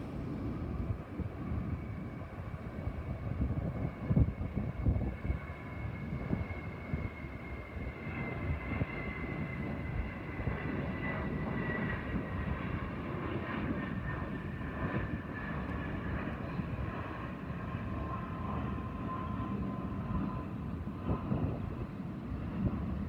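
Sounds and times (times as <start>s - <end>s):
jet engines rumbling: 0.0s - 23.0s
turbine whine: 0.0s - 23.0s.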